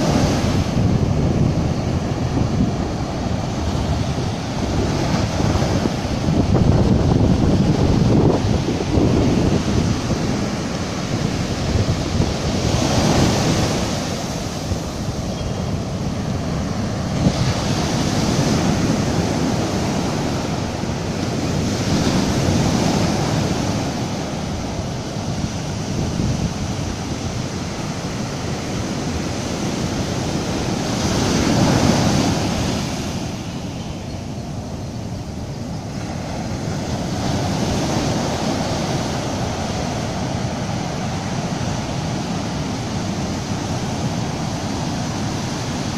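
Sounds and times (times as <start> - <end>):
surf washing over sand: 0.0 - 45.9.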